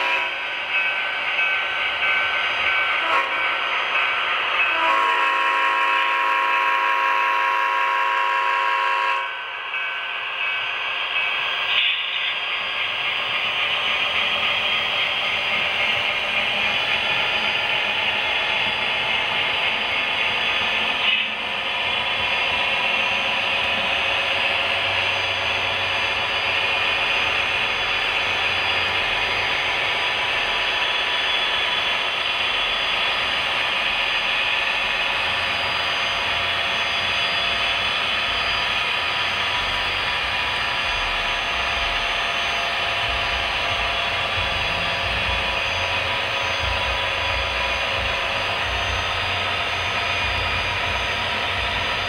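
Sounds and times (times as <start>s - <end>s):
model train wheels on rails: 0.0s - 52.0s.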